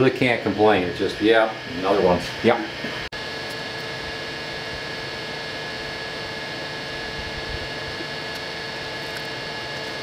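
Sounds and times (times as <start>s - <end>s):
constant whining tones: 0.0s - 10.0s
cooling fans whirring: 0.0s - 10.0s.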